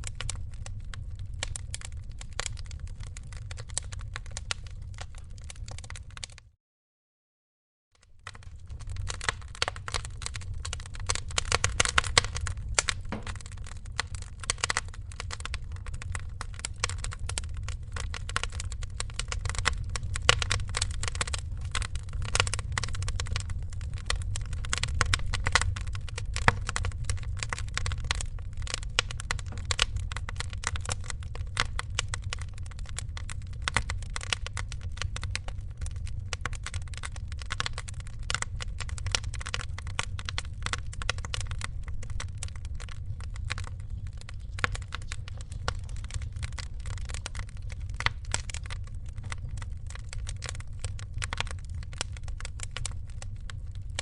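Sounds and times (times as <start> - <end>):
wood fire crackling: 0.0 - 6.5, 8.0 - 54.0
low steady rumble: 8.2 - 54.0.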